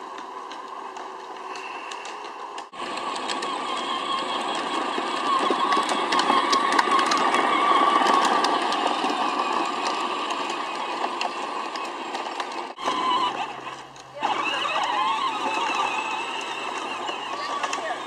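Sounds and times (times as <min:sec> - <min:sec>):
electric toy tractor motor whir: 0:00.0 - 0:18.0
tyres rolling on asphalt: 0:00.0 - 0:18.0.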